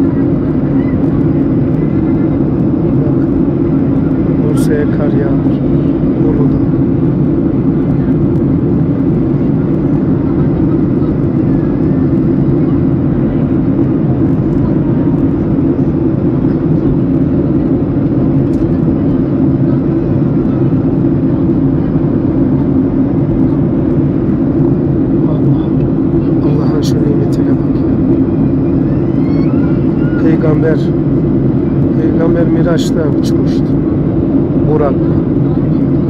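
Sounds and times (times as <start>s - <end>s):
airliner cabin noise: 0.0s - 36.0s.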